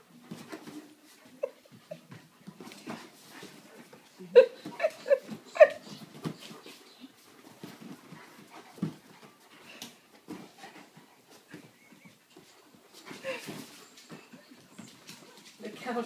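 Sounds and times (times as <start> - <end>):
dogs scuffling: 0.0 - 16.0.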